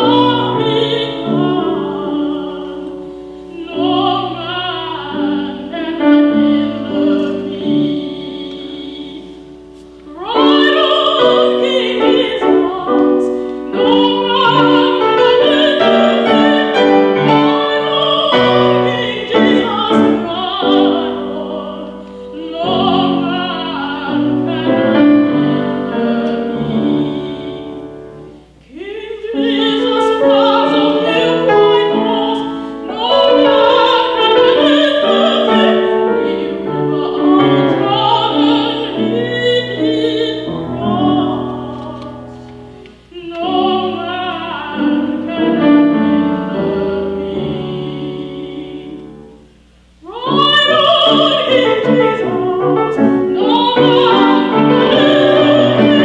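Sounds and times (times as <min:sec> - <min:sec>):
woman singing operatically: 0:00.0 - 0:09.5, 0:10.1 - 0:27.9, 0:28.6 - 0:42.3, 0:43.1 - 0:49.2, 0:50.0 - 0:56.0
piano accompaniment: 0:00.0 - 0:56.0.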